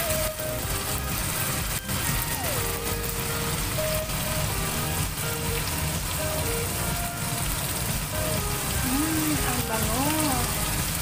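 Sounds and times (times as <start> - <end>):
background music: 0.0 - 11.0
paste sizzling in oil: 0.0 - 11.0.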